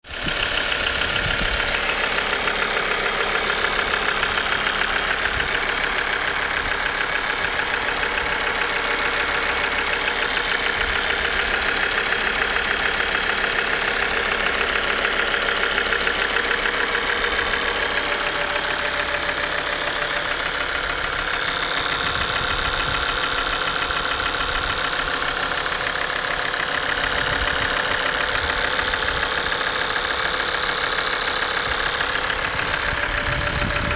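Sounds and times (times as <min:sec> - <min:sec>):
car engine idling: 0:00.0 - 0:33.9
rapid ticking clatter: 0:00.0 - 0:33.9.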